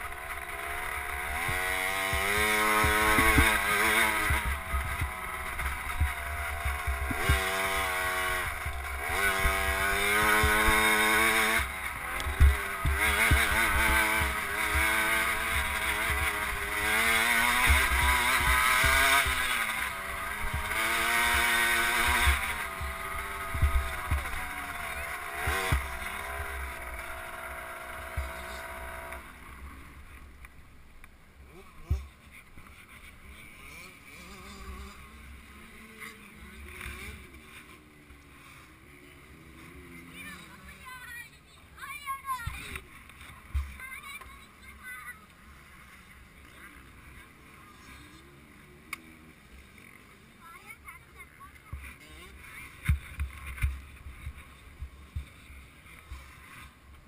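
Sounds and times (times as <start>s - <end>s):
two-stroke engine revving: 0.0s - 30.5s, 31.4s - 57.0s.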